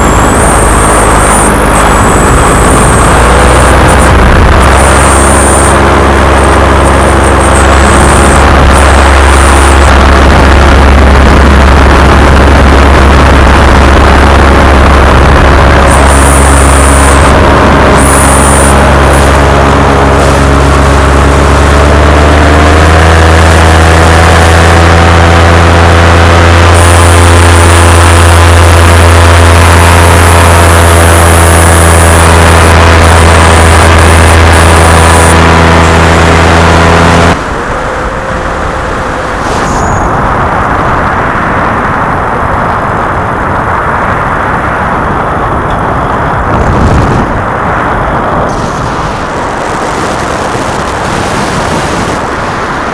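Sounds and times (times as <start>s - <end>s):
paramotor engine and propeller: 0.0s - 52.9s
wind noise: 0.0s - 52.9s.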